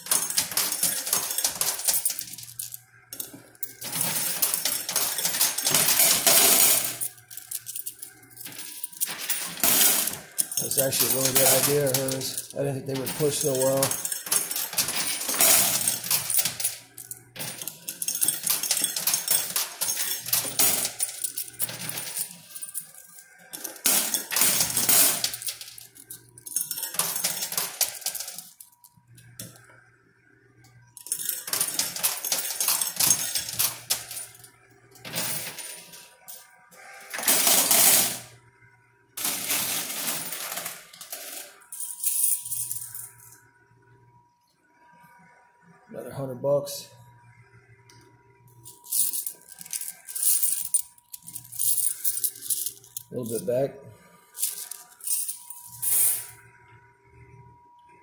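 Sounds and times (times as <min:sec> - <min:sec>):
coins clinking and clattering: 0:00.0 - 0:29.6, 0:30.7 - 0:38.4, 0:39.2 - 0:43.4, 0:48.6 - 0:53.7, 0:54.3 - 0:56.4.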